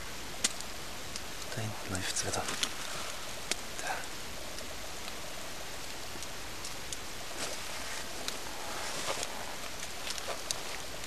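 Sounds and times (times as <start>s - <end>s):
snow falling hiss: 0.0s - 11.0s.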